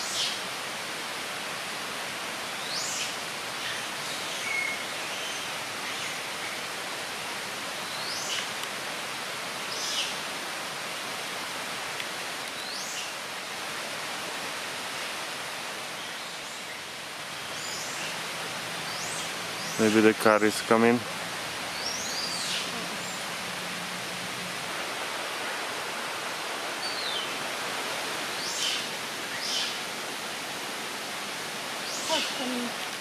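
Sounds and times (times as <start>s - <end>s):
outdoor ambient hiss: 0.0s - 33.0s.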